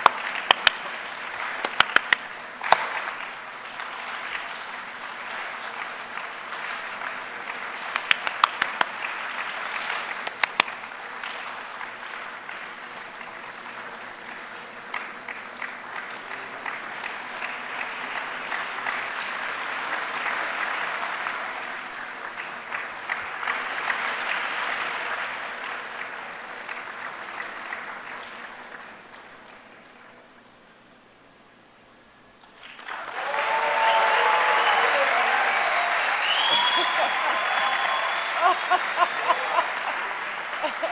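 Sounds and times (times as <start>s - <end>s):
audience clapping and patting hands: 0.0s - 30.0s, 32.4s - 40.9s.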